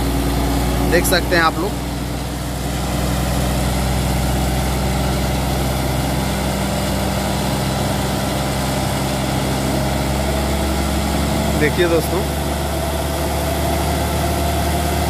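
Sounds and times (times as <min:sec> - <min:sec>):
cable puller engine humming: 0:00.0 - 0:15.0.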